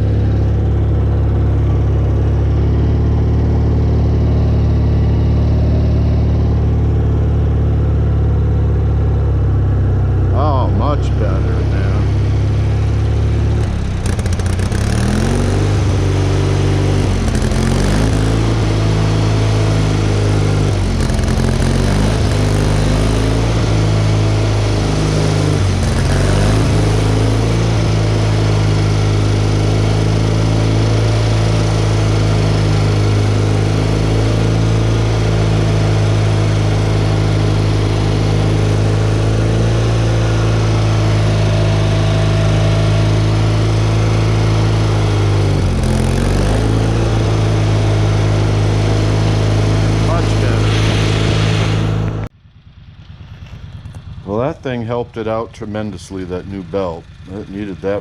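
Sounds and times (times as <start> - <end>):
riding mower engine running: 0.0 - 58.0.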